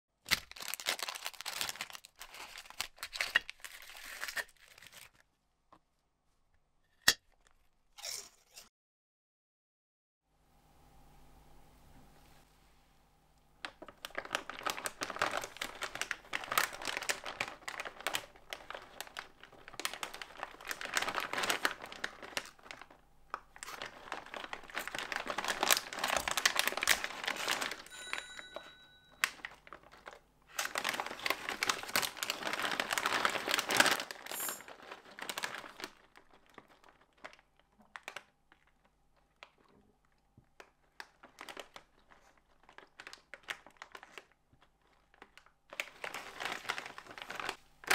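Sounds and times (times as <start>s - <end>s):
plastic snack bag crinkling: 0.2s - 5.2s, 13.6s - 47.9s.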